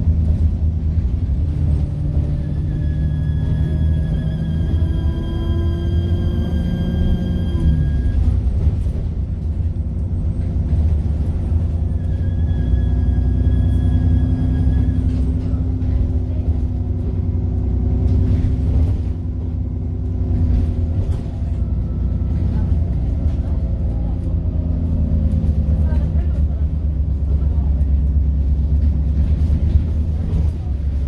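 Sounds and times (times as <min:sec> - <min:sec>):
bus diesel engine rumble: 0:00.0 - 0:31.0.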